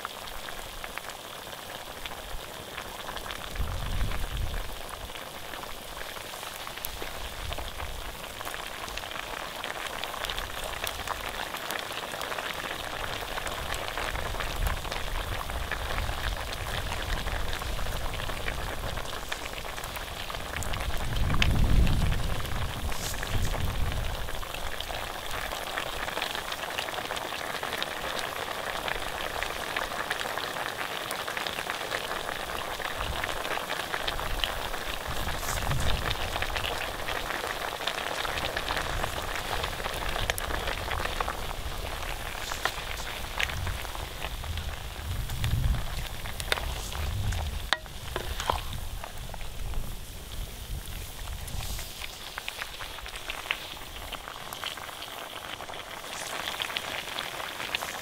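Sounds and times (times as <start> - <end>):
pork sizzling and crackling in fat: 0.0 - 58.0.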